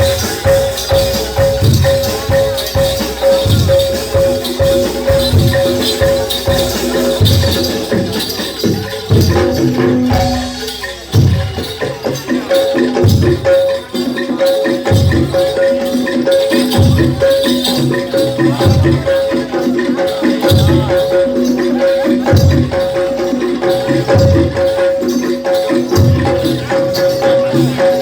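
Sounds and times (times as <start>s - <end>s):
metallophones playing fast figure: 0.0s - 28.0s
shaker-like jingling: 0.0s - 28.0s.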